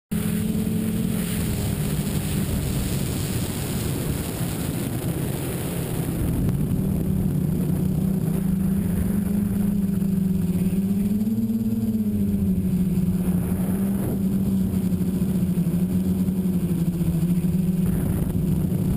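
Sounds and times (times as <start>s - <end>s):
drone propellers humming: 0.1s - 18.9s.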